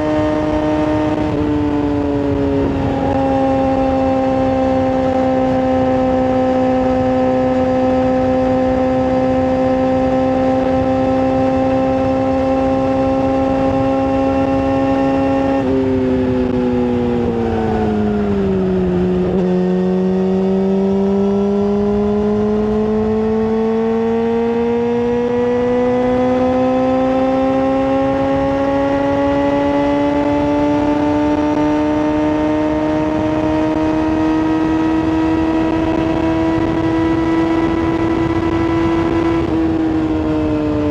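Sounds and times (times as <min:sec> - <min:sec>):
sport bike engine revving: 0:00.0 - 0:40.9.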